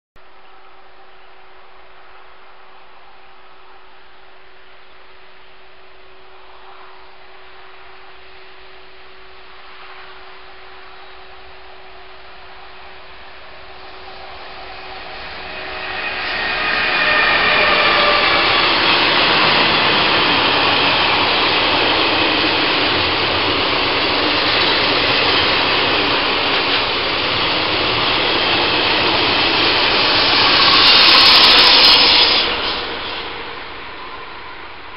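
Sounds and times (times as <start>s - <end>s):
electric locomotive passing: 1.4s - 34.9s
diesel locomotive passing: 4.4s - 34.9s
train wheels on rails: 6.3s - 34.9s.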